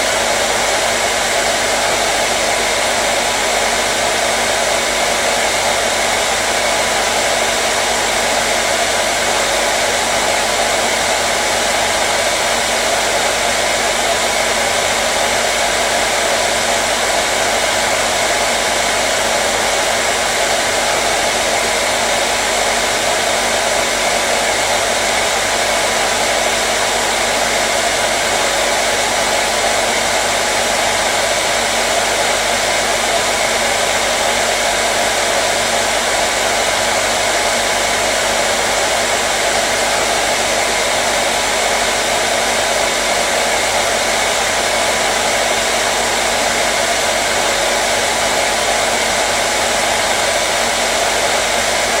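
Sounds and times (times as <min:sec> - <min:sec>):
hair dryer blowing: 0:00.0 - 0:52.0.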